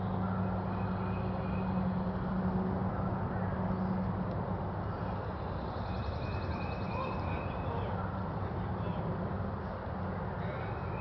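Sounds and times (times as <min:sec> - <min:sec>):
distant traffic hum: 0:00.0 - 0:11.0.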